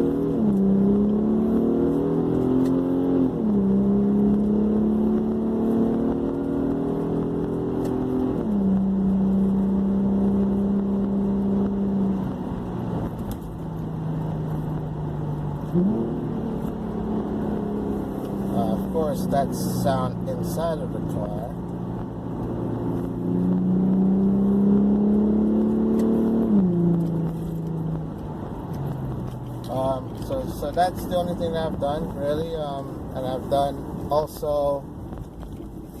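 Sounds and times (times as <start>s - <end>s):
car engine revving through gears: 0.0s - 34.4s.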